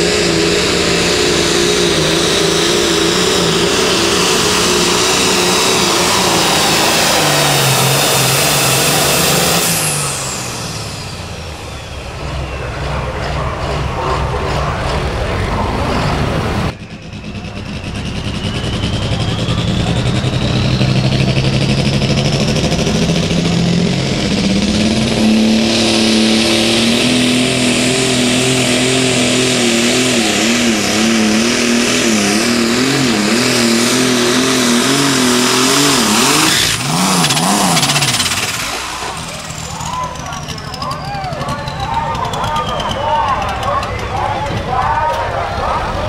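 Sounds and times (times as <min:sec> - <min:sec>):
other tractor engine: 0:00.0 - 0:46.0
tractor diesel engine whine: 0:00.0 - 0:46.0.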